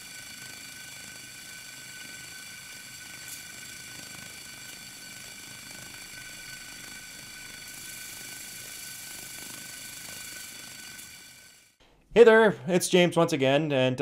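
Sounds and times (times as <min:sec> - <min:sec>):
steam hissing: 0:00.0 - 0:11.8.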